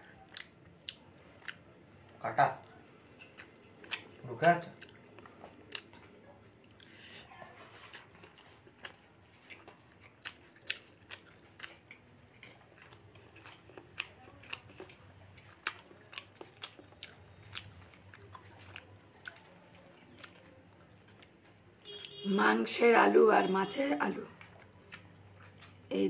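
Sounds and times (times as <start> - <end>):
person chewing with mouth clicks: 0.1 - 1.6, 2.6 - 22.1, 24.4 - 25.9.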